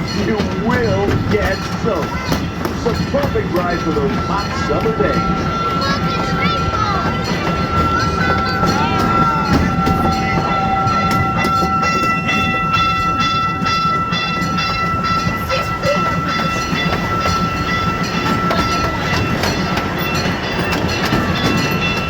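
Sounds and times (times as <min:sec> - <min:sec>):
clicking from rails: 0:00.0 - 0:22.0
ride train rumbling on track: 0:00.0 - 0:22.0.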